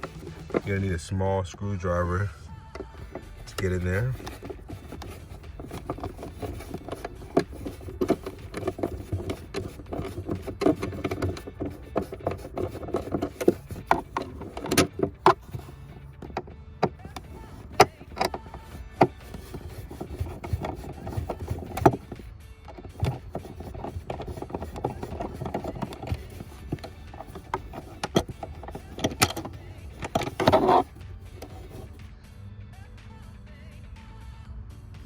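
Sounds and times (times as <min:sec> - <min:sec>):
screwdriver clicking on plastic trim: 0:02.8 - 0:32.0.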